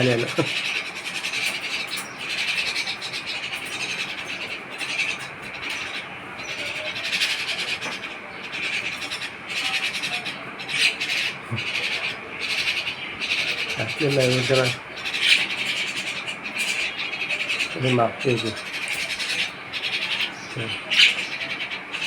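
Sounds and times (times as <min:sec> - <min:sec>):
chicks chirping: 0:00.0 - 0:22.0.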